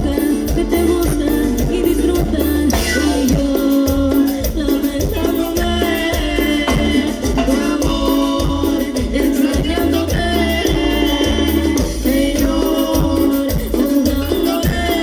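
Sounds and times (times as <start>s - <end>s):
latin band music: 0.0s - 15.0s.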